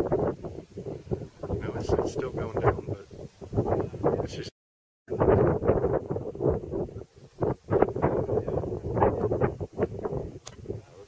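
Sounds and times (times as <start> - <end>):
wind buffeting microphone: 0.0 - 4.5, 5.1 - 11.0.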